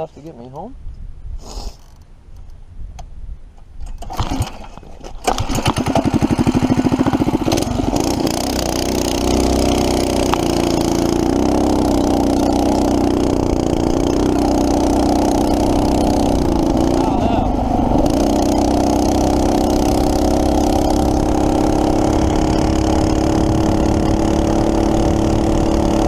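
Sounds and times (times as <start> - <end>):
small engine starting and running: 4.0 - 17.1, 17.8 - 26.0.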